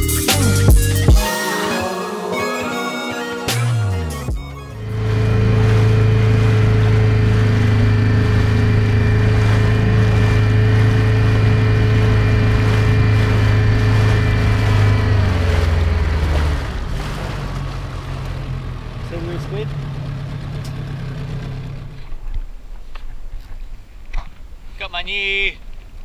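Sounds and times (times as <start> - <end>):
outboard motor running: 0.0 - 23.5.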